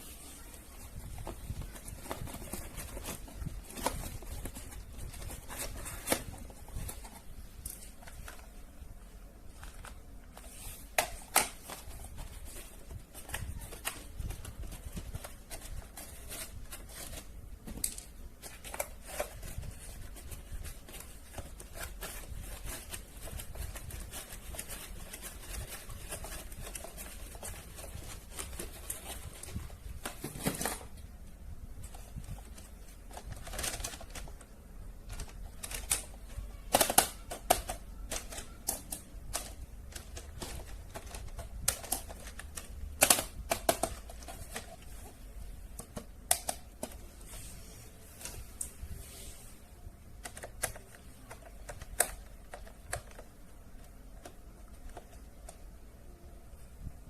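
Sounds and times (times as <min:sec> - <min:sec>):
faint low hum: 0:00.0 - 0:57.0
toys and packaging clicking: 0:00.9 - 0:08.6, 0:09.4 - 0:31.1, 0:31.8 - 0:47.1, 0:50.2 - 0:55.6.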